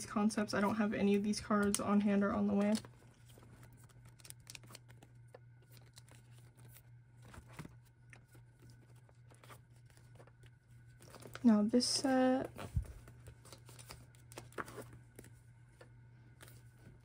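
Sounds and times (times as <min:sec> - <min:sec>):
plastic pages rustling: 0:00.6 - 0:17.0.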